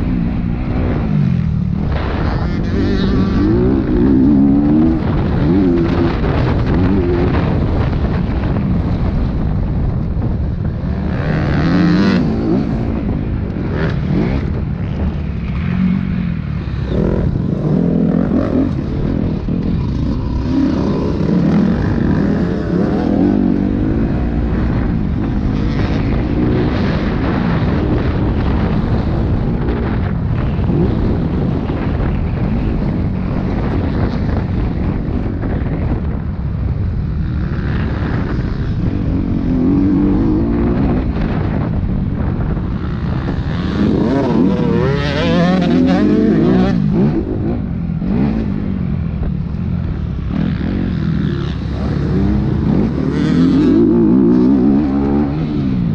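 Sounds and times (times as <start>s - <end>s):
dirt bike engine revving: 0.0s - 9.0s, 10.9s - 34.1s, 37.2s - 48.7s, 49.9s - 55.9s
wind buffeting microphone: 0.0s - 55.9s.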